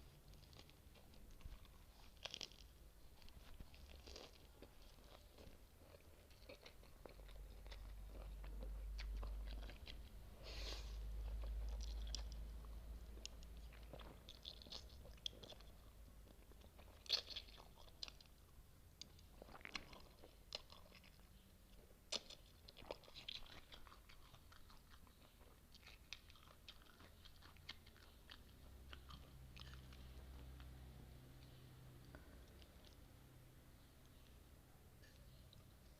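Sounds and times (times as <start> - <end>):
person chewing crunchy food: 0.0 - 33.2.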